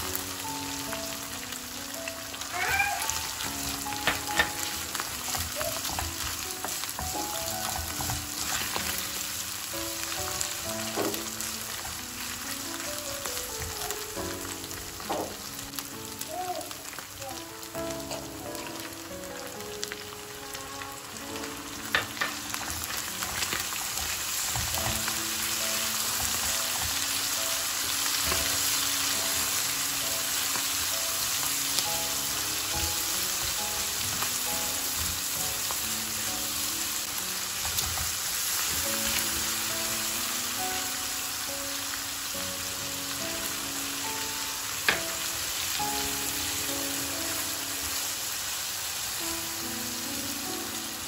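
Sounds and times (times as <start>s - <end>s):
meat sizzling in a frying pan: 0.0s - 51.0s
quiet background music: 0.0s - 51.0s.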